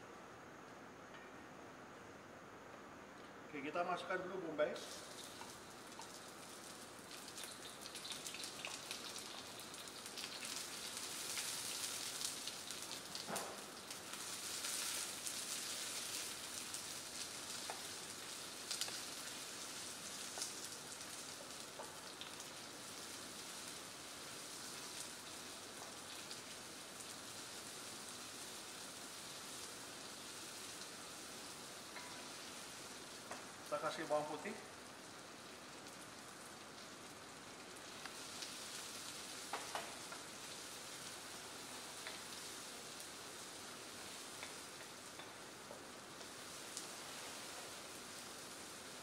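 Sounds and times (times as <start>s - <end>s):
onions sizzling in a wok: 1.7s - 49.0s.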